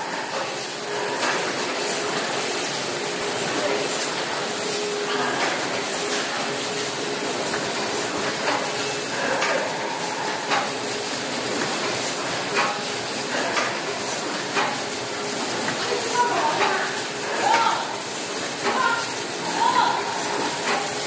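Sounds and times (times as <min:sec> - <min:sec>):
packaging machine hissing: 0:00.0 - 0:21.0.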